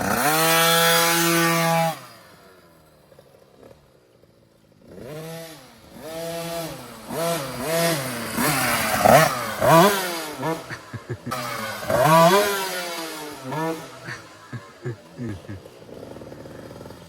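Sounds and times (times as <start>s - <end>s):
dirt bike engine revving: 0.0s - 2.4s, 4.7s - 17.0s.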